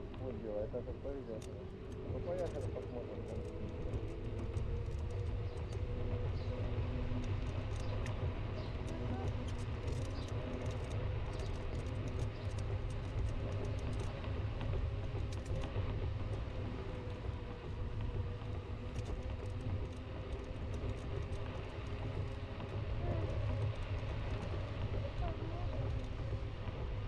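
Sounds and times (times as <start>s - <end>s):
light rattling clicks: 0.0s - 26.8s
electric scooter rumbling: 0.0s - 27.0s.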